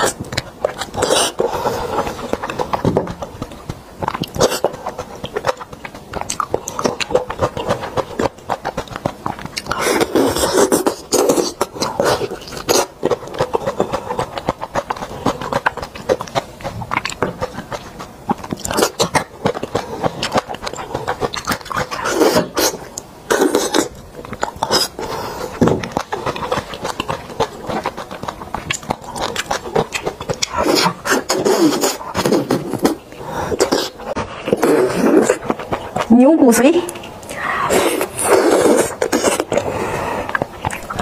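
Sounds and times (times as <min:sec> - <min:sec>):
lip smacks and clicks: 0:00.0 - 0:41.0
sucking marrow from bone: 0:00.0 - 0:41.0
wet chewing: 0:00.0 - 0:41.0.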